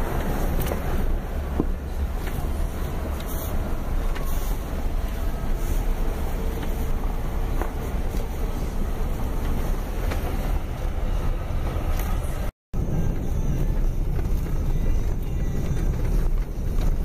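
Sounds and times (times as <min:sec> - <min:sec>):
tyres and engine rumbling: 0:00.0 - 0:17.0.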